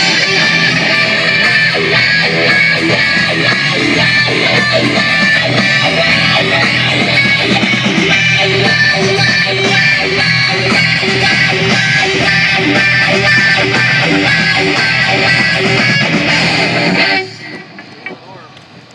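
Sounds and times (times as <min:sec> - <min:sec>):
guitar band song: 0:00.0 - 0:18.6.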